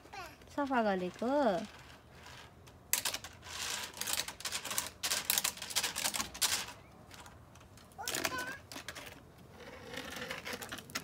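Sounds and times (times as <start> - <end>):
rake scratching on paving stones: 0.6 - 11.0.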